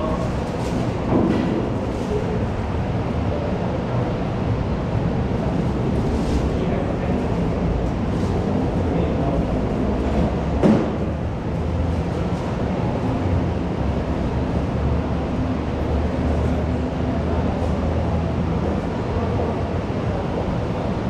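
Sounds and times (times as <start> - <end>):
hubbub of many people: 0.0 - 21.0.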